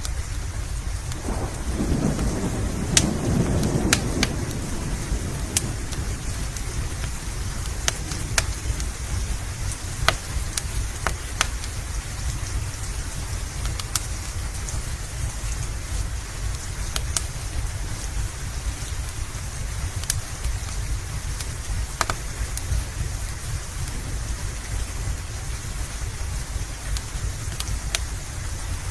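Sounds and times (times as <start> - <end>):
steady rain: 0.0 - 28.9
wood fire crackling and popping: 0.0 - 28.9
thunder rumble: 0.3 - 28.9.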